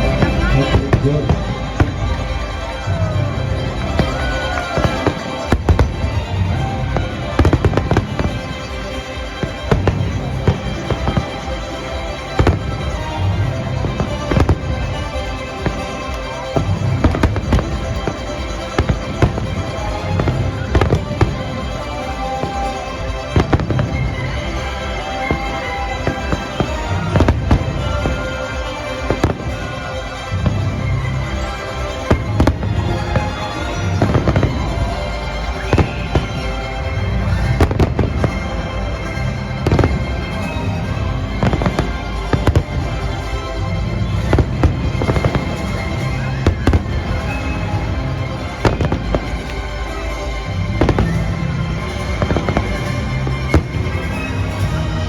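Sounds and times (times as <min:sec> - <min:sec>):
fireworks bangs: 0:00.0 - 0:55.0
music playing: 0:00.0 - 0:55.0.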